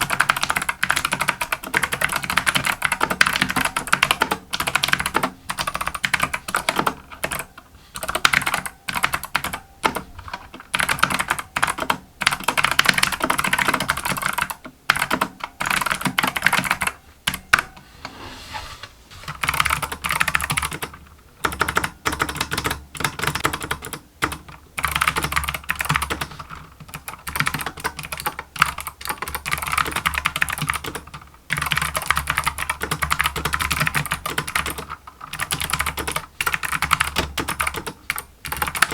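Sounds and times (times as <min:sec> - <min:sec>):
clicky mechanical keyboard typing: 0:00.0 - 0:17.7, 0:19.3 - 0:38.9.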